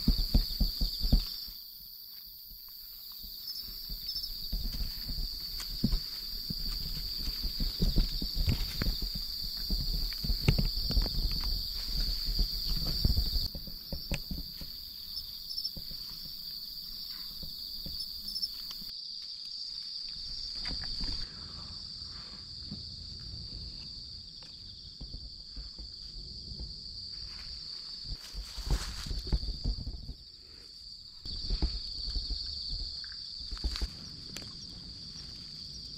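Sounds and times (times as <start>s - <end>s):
crickets trilling: 0.0s - 35.9s.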